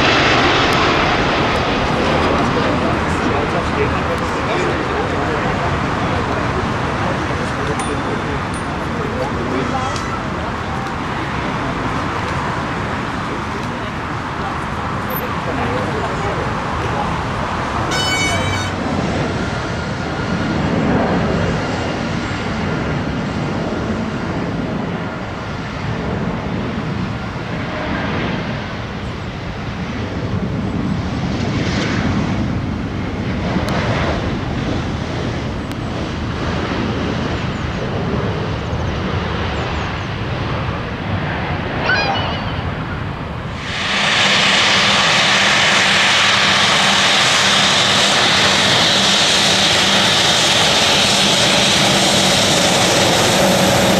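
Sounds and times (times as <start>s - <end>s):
jet engine rumble and hiss: 0.0s - 53.9s.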